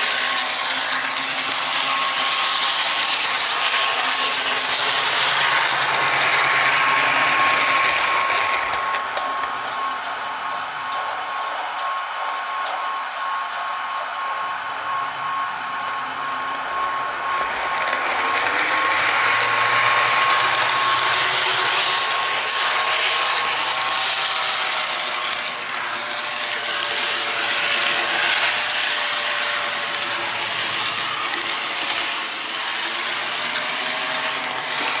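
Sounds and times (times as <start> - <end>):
model locomotive motor whirring: 0.0 - 35.0
steady high whine: 0.0 - 35.0
wheels rolling on track: 0.0 - 35.0.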